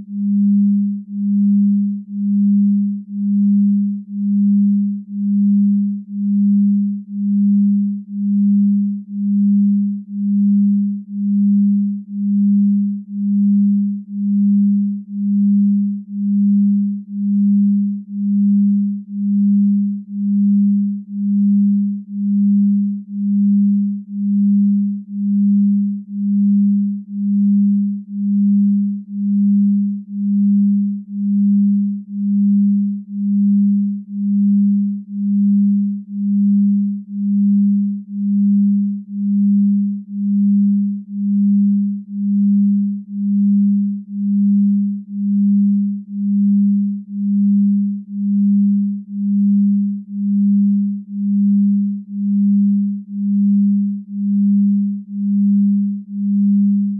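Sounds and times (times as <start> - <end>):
pulsing low electronic tone: 0.0 - 56.9.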